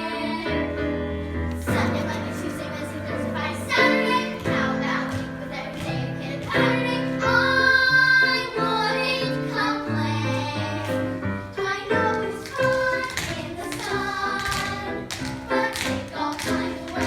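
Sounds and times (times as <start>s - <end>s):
instrumental accompaniment: 0.0s - 17.0s
child singing: 1.7s - 10.9s, 11.6s - 17.0s.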